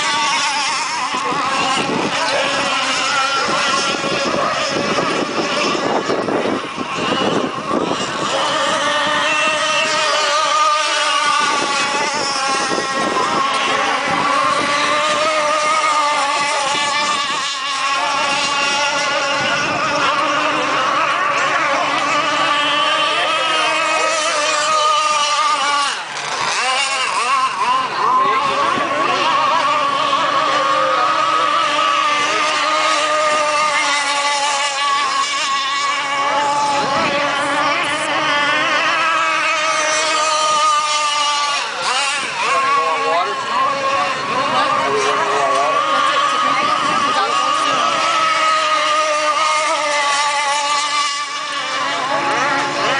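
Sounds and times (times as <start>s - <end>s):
model boat engines whining: 0.0s - 52.9s.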